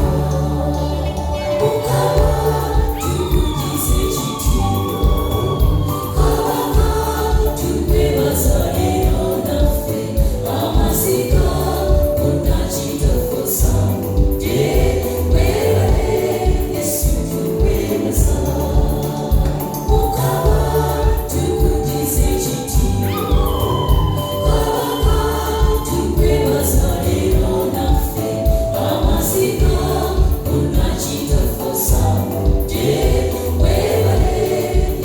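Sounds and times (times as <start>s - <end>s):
band with steady beat: 0.0s - 35.0s
choir singing gospel: 0.0s - 35.0s.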